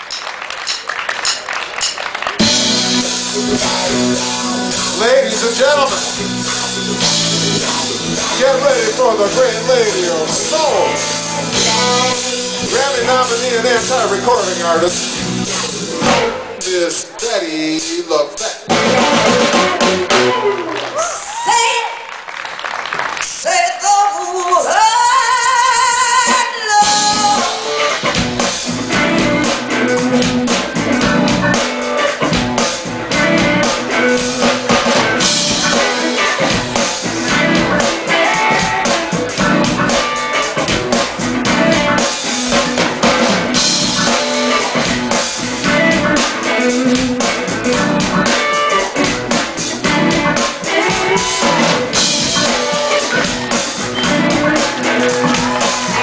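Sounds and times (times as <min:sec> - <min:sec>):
drum kit beat: 0:00.0 - 0:21.1, 0:26.0 - 0:56.0
electric guitars: 0:01.5 - 0:17.3, 0:18.6 - 0:21.7, 0:26.1 - 0:56.0.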